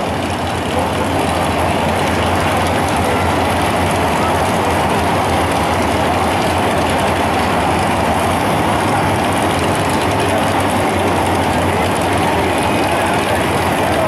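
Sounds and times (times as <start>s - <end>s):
drag racing engines idling: 0.0s - 14.0s.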